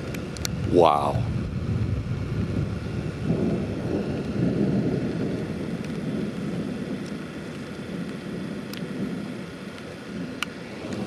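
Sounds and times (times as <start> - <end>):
thunder rumbling: 0.2 - 11.0.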